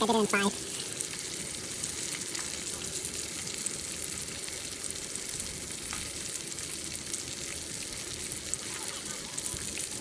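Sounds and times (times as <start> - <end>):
steak sizzling: 0.0 - 10.0.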